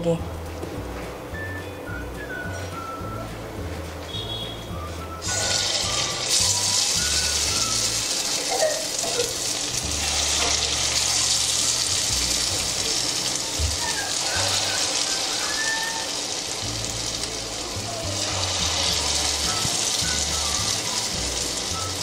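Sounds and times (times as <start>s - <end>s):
background music: 0.0s - 22.0s
hot oil sizzling: 4.2s - 22.0s.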